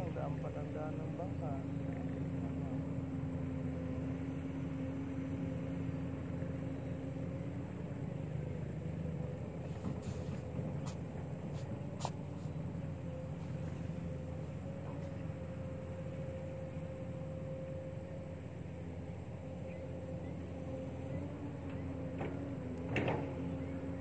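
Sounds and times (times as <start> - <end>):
motor droning: 0.0 - 24.0.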